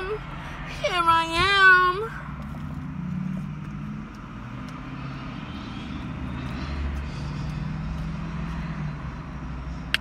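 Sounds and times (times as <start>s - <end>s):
car engine hum: 0.0s - 10.0s.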